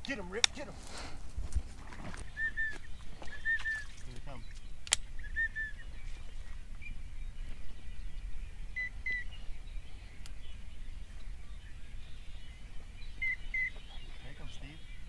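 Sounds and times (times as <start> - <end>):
wind rumble on microphone: 1.2 - 15.0
high whistled bird chirps: 2.2 - 15.0.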